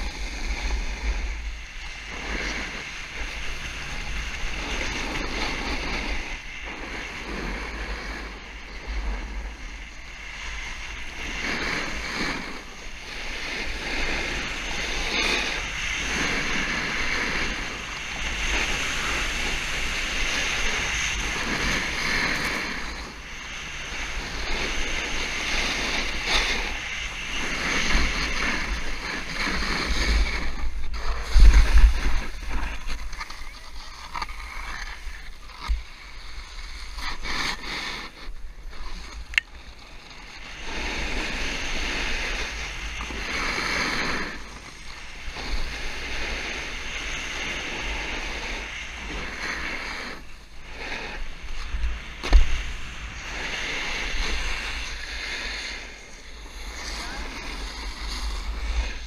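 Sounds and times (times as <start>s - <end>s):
snowboard scraping over snow: 0.0s - 59.0s
wind buffeting microphone: 0.0s - 59.0s.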